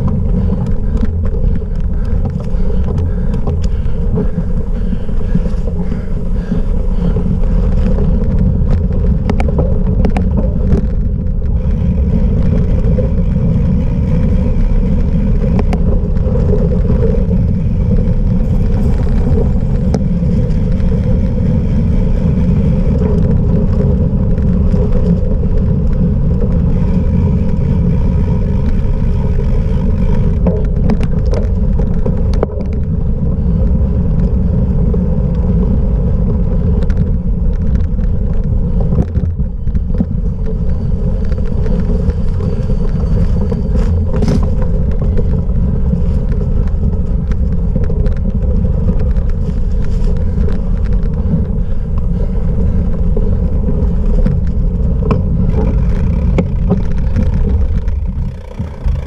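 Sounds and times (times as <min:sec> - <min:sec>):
bike clicks and knocks: 0:00.0 - 0:59.0
wind rumble on microphone: 0:00.0 - 0:59.0.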